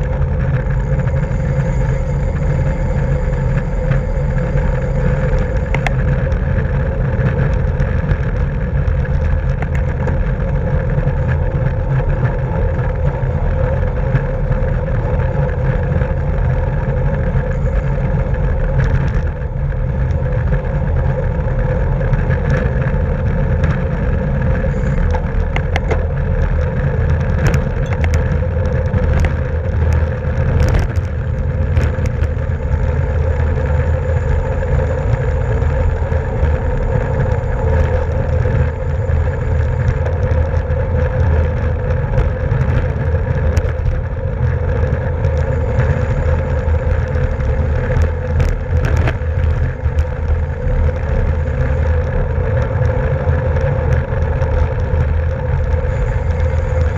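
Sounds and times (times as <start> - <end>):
constant hum: 0.0 - 56.9
wind and road rumble: 0.0 - 56.9.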